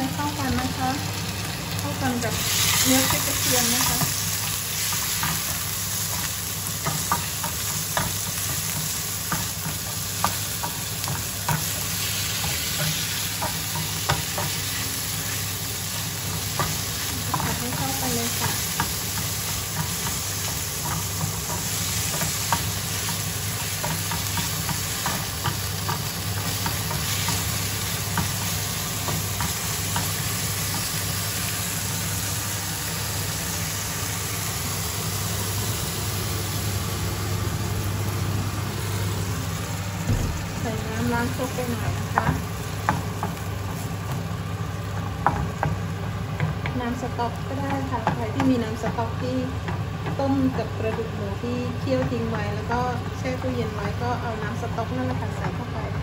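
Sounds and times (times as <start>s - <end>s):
meat sizzling in a frying pan: 0.0s - 56.0s.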